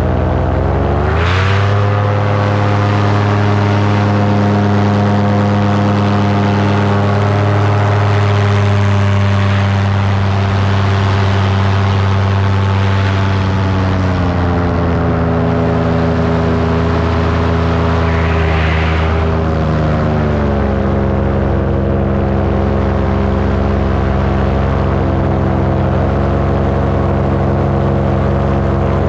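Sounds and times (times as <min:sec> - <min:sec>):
paramotor engine and propeller running: 0:00.0 - 0:29.0.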